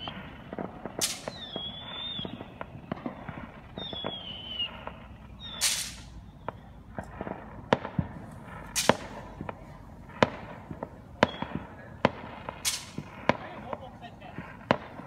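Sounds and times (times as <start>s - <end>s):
crackling hiss: 0.0s - 15.0s
fireworks bangs: 0.0s - 15.0s.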